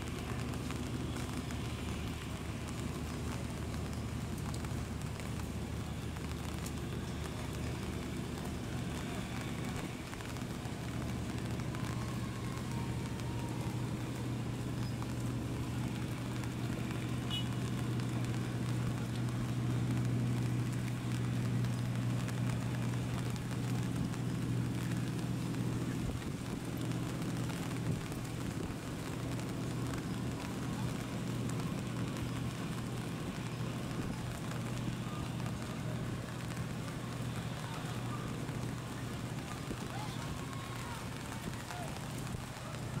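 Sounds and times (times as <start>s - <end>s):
faint crackles: 0.0s - 43.0s
noisy hiss: 0.0s - 43.0s
ship engines low hum: 0.0s - 43.0s
wind and rain rumble: 0.0s - 43.0s.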